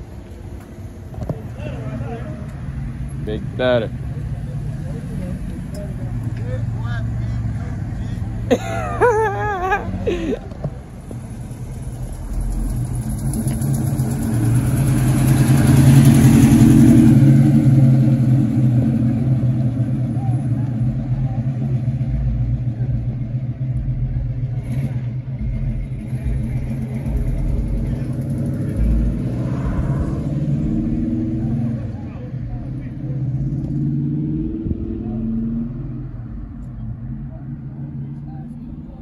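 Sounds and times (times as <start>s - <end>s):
car engine running: 0.9s - 39.0s.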